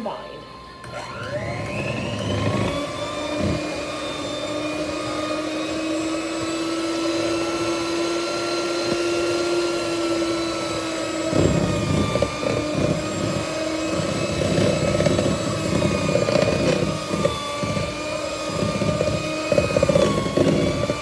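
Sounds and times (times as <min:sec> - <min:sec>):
electric hand mixer whining: 0:00.0 - 0:21.0.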